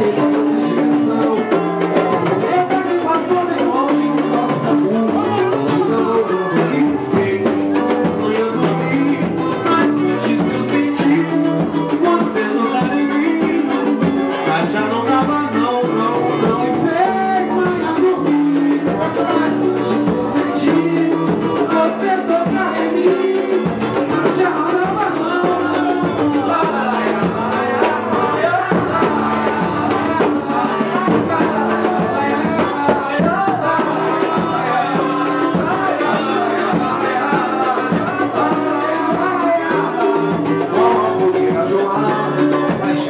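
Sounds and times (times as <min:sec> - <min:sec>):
percussion: 0:00.0 - 0:43.0
person singing: 0:00.0 - 0:43.0.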